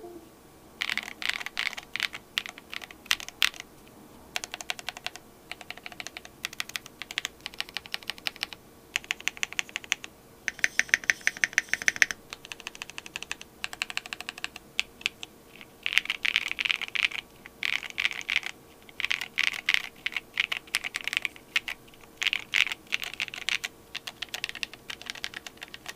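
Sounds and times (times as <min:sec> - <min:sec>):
mechanical keyboard typing: 0:00.8 - 0:03.7, 0:04.3 - 0:25.9.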